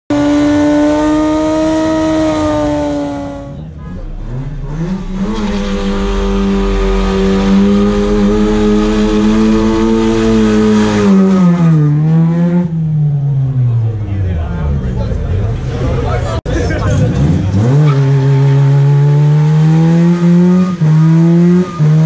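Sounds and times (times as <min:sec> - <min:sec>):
car engines revving: 0:00.1 - 0:22.0.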